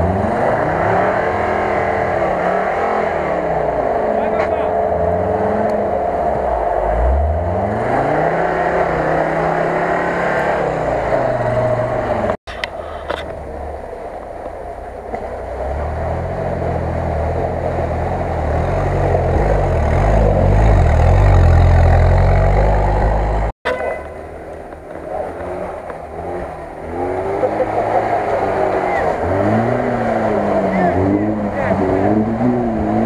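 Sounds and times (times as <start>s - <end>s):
driving through mud and water: 0.0s - 33.0s
off-road vehicle engines revving: 0.0s - 33.0s.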